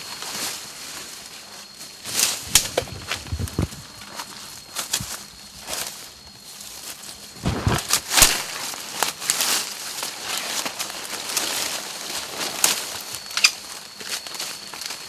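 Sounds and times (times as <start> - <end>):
dry leaves and bamboo rustling: 0.0 - 15.0.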